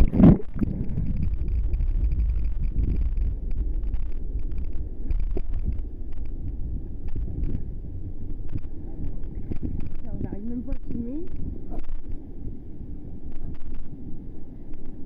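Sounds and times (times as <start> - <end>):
sea water sloshing and lapping: 0.0 - 15.0
wind buffeting microphone: 0.0 - 15.0.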